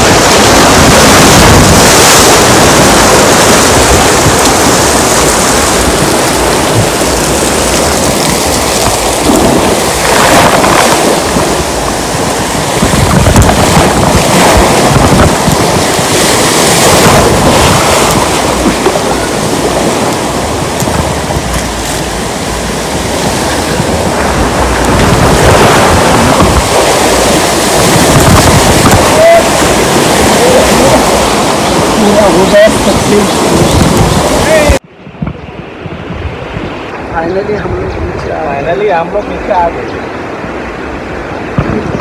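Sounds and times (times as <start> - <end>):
water rushing and splashing: 0.0 - 34.9
wind noise on microphone: 0.0 - 42.0.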